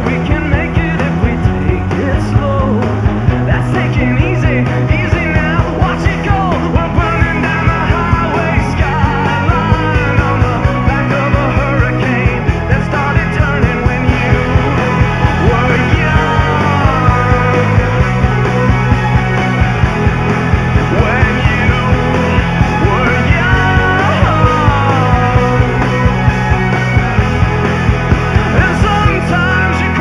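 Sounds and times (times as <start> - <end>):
rock music: 0.0 - 30.0.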